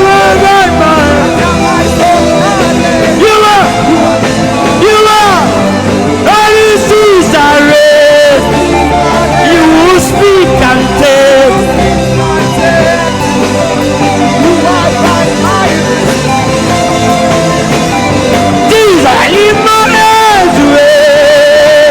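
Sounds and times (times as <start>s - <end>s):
person singing: 0.0s - 21.9s
sustained instrumental chords: 0.0s - 21.9s.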